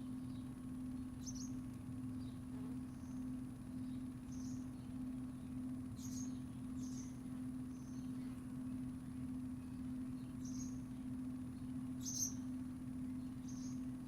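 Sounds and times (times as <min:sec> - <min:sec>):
faint high whine: 0:00.0 - 0:14.0
small birds chirping: 0:00.0 - 0:14.0.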